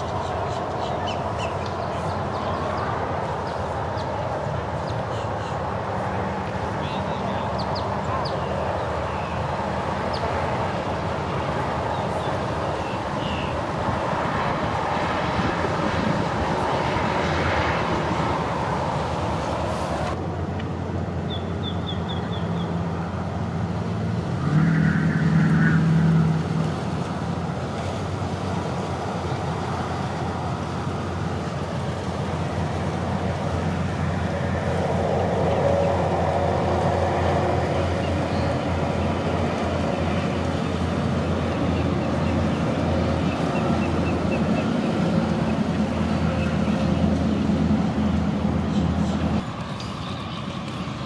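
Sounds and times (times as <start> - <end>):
distant traffic rumble: 0.0 - 51.0.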